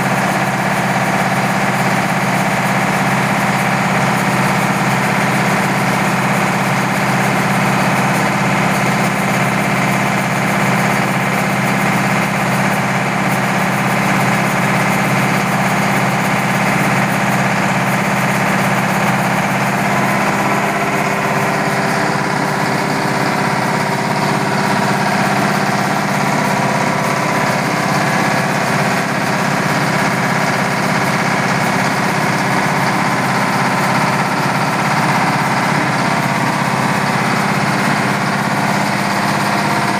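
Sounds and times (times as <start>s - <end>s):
diesel engine running: 0.0s - 39.9s
mill machinery noise: 0.0s - 39.9s.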